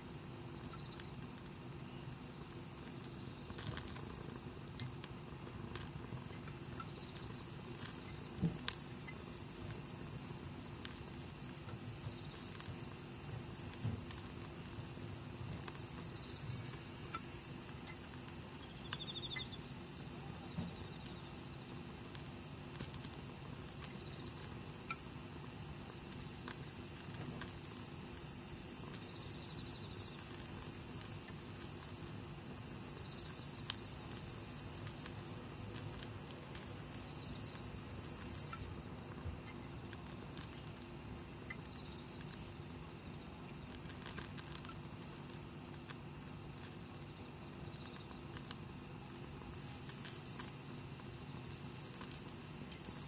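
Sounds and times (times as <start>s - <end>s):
insects trilling: 2.8s - 53.0s.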